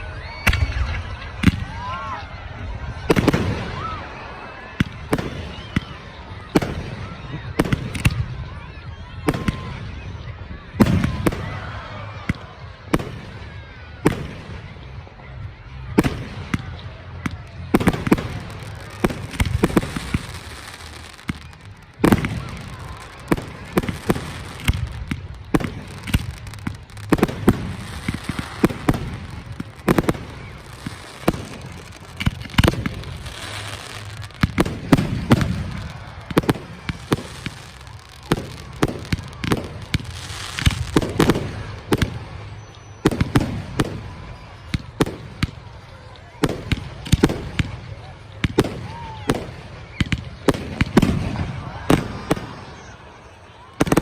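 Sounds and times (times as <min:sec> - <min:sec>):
fireworks bangs: 0:02.8 - 0:08.4, 0:15.8 - 0:54.0.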